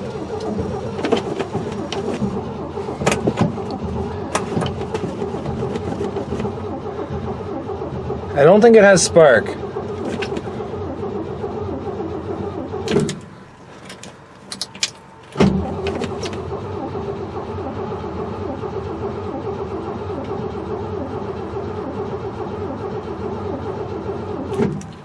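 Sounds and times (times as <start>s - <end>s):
starter motor cranking engine: 0.0s - 25.0s.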